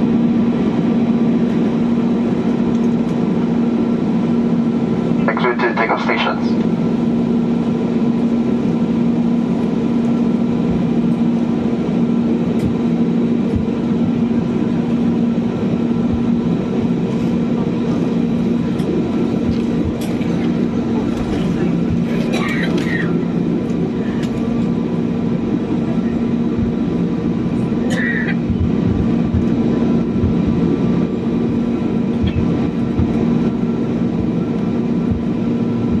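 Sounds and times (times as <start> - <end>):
aircraft engines droning: 0.0 - 36.0.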